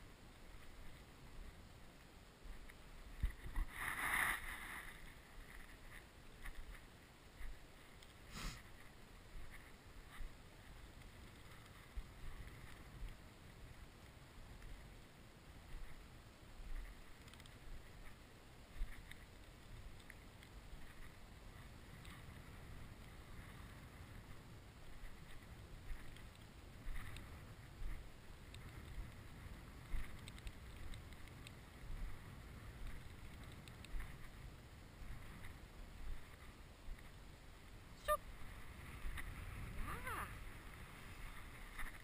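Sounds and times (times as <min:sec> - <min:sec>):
wind rumble on microphone: 0:00.0 - 0:08.0, 0:08.7 - 0:42.0.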